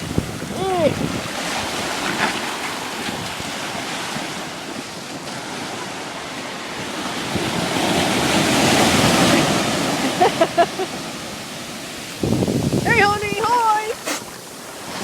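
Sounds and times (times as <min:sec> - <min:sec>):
wind on microphone: 0:00.0 - 0:05.8, 0:06.7 - 0:10.1, 0:11.2 - 0:15.0
ocean surf breaking: 0:00.0 - 0:15.0.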